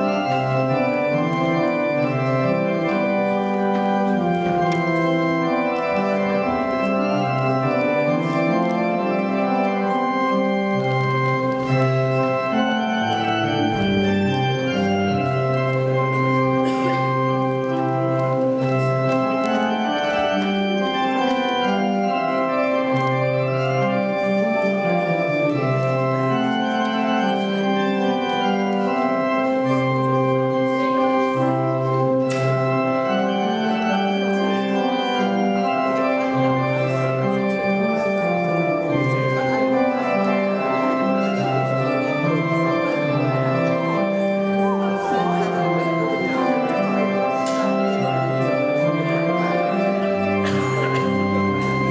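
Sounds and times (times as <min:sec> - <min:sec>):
church organ playing: 0:00.0 - 0:51.9.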